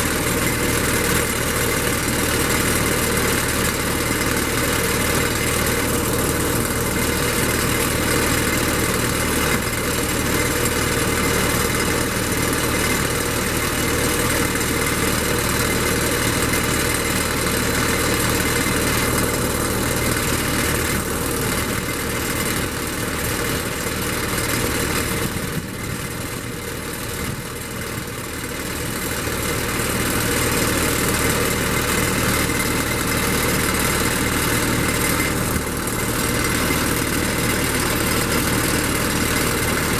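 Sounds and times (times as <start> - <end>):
heavy machine engine idling: 0.0 - 39.9.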